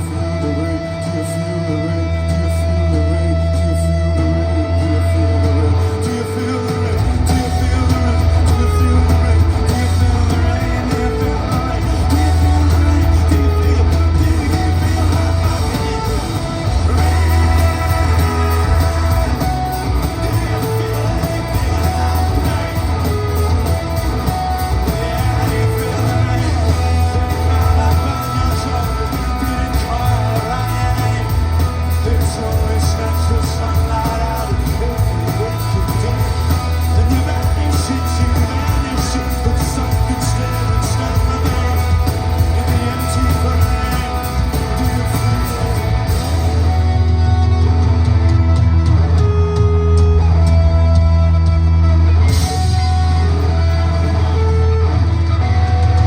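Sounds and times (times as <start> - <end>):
live rock band: 0.0 - 56.0
male lead vocal: 0.0 - 56.0.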